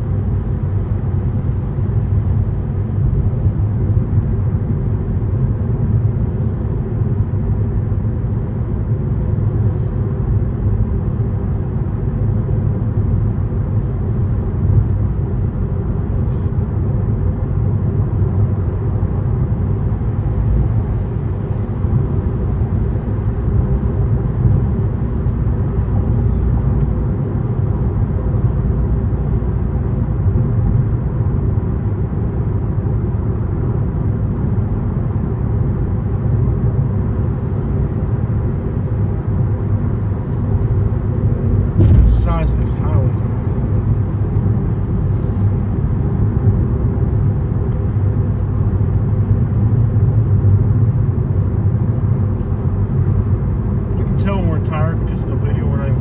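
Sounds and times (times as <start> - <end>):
car cabin road noise: 0.0 - 35.2, 35.9 - 56.0.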